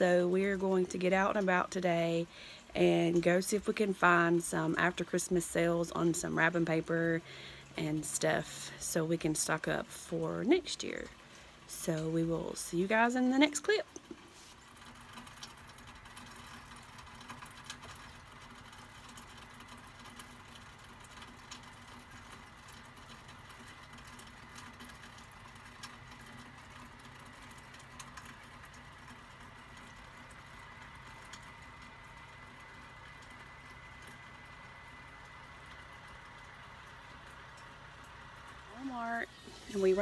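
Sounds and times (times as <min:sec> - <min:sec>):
faint steady hiss: 0:00.0 - 0:40.0
rain drops pattering: 0:00.0 - 0:40.0.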